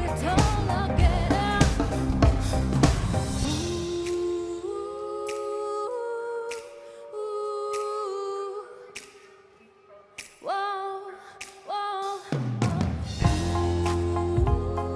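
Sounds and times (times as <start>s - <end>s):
held chords with vocal quality: 0.0s - 14.9s.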